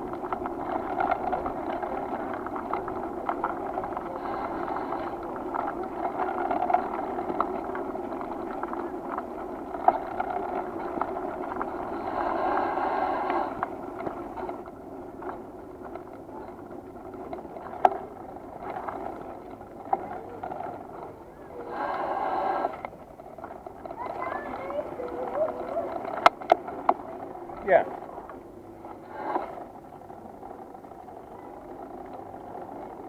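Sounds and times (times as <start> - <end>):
bicycle rattles and knocks: 0.0 - 33.0
bicycle road noise: 0.0 - 33.0.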